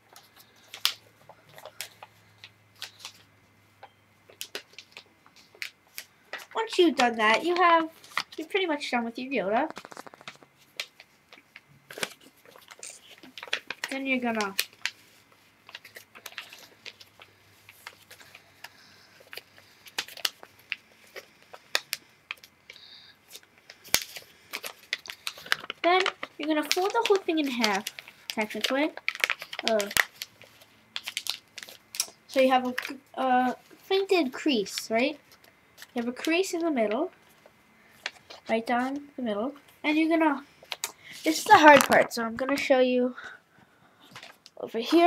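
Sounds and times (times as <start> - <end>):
paper folding and crinkling: 0.0 - 42.8, 44.0 - 45.0
faint steady hum: 0.0 - 45.0.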